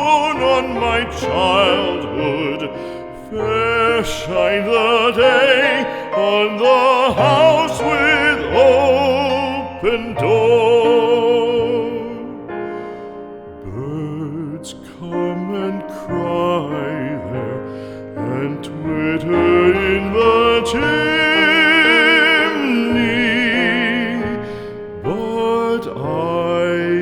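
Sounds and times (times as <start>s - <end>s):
person singing a ballad: 0.0s - 27.0s
slow tender melody with vibrato: 0.0s - 27.0s.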